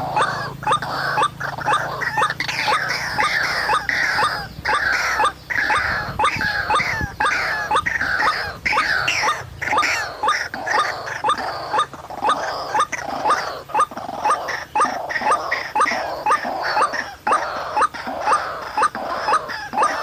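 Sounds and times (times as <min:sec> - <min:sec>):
waterhen harsh croaking call: 0:00.0 - 0:20.0.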